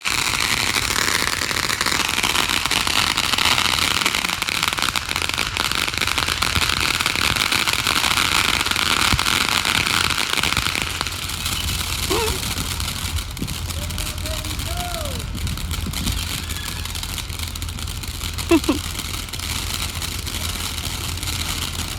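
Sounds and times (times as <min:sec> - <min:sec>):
fireworks crackling: 0:00.0 - 0:21.9.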